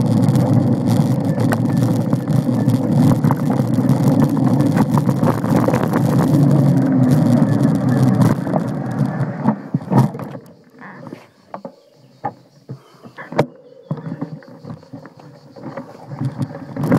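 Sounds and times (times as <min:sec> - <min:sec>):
bike rattling and clicking: 0:00.0 - 0:16.9
bike tyres rumbling on dirt: 0:00.0 - 0:16.9.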